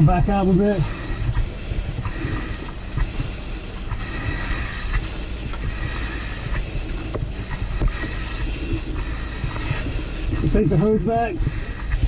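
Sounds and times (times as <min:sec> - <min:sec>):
breathing through regulator mask: 0:00.3 - 0:12.0.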